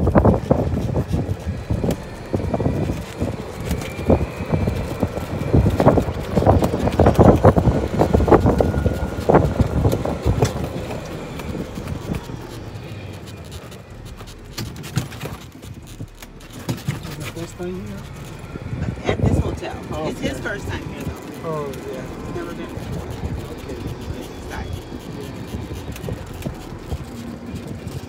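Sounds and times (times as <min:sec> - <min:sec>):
plastic curtains flapping and rattling: 0:00.0 - 0:28.0
wind buffeting: 0:00.0 - 0:28.0.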